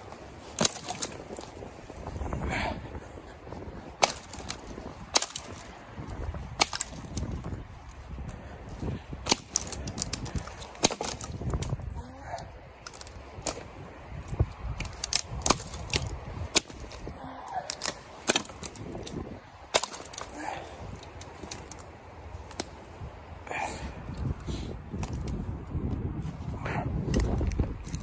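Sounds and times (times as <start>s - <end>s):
dry branches snapping: 0.0s - 26.0s, 27.0s - 28.0s.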